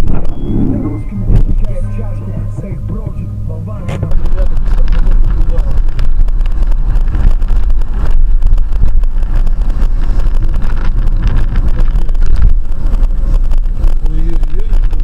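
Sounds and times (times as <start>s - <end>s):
low rumble of moving vehicle: 0.0s - 15.0s
wind buffeting microphone: 0.0s - 15.0s.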